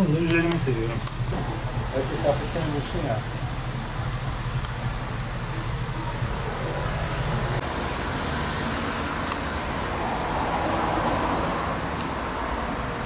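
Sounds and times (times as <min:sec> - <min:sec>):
road traffic noise: 0:00.0 - 0:13.0
vehicle passing: 0:00.0 - 0:13.0.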